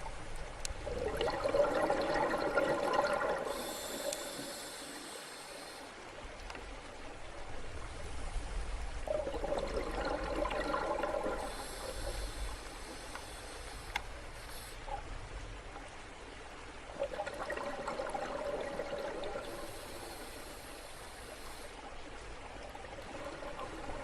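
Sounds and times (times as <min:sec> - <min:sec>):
underwater bubbling: 0:00.0 - 0:24.0.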